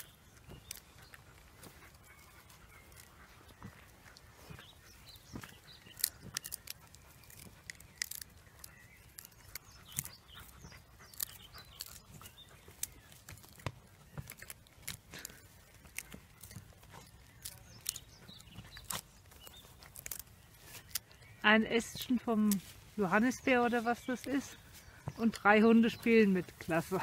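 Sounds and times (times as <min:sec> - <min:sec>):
puppies playing clicks and rustles: 0:00.0 - 0:27.0.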